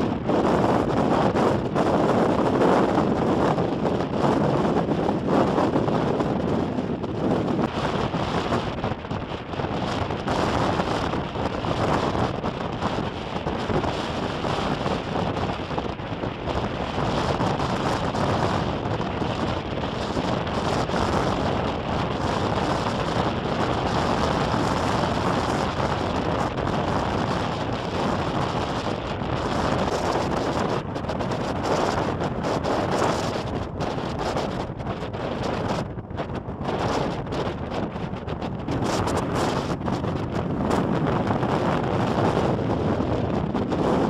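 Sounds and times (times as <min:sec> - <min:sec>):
storm wind gusting on microphone: 0:00.0 - 0:44.0.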